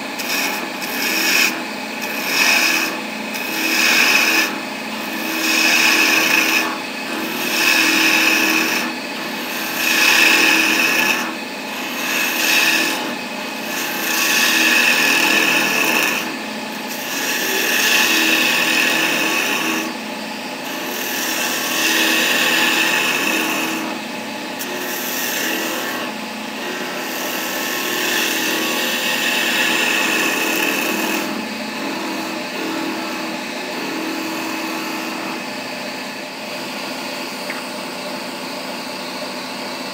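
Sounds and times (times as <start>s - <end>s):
chisel rasping on spinning wood: 0.0s - 35.6s
wood lathe humming: 0.0s - 39.9s.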